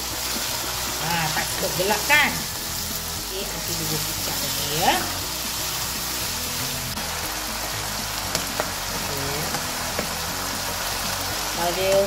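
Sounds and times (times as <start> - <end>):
food sizzling in a wok: 0.0 - 12.0
soft background music: 0.0 - 12.0.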